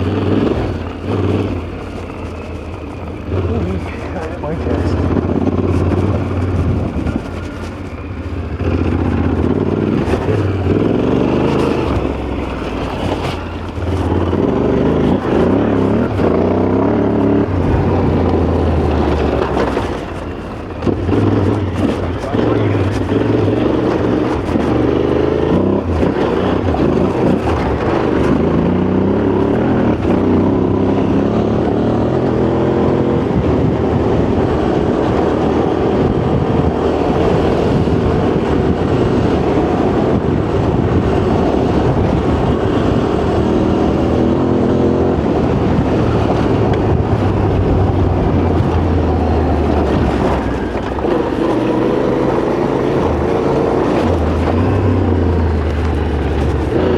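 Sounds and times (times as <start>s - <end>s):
motorcycle engine revving: 0.0s - 56.9s
wind and tyre noise: 0.0s - 56.9s.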